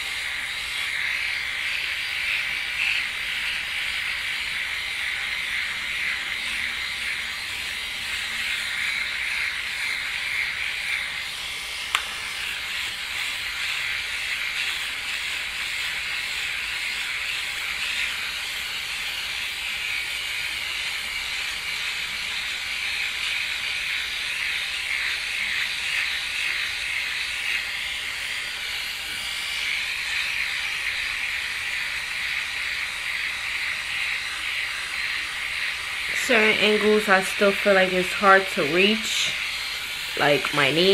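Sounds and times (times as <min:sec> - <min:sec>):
hair remover whirring buzz: 0:00.0 - 0:40.9.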